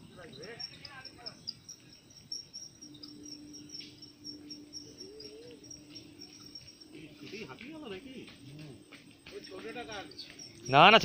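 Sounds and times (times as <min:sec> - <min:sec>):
crickets chirping: 0:00.0 - 0:11.0
faint low hum: 0:00.0 - 0:11.0.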